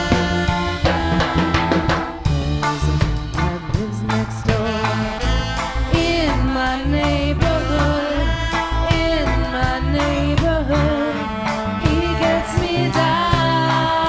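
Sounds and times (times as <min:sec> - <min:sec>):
drums: 0:00.0 - 0:14.0
gliding melodic lead line: 0:00.0 - 0:14.0
pulsing bass line: 0:00.0 - 0:14.0.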